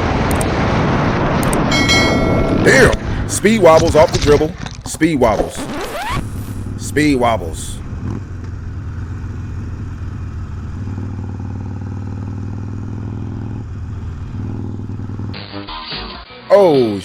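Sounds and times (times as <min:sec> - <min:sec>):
motorcycle engine running: 0:01.2 - 0:15.4.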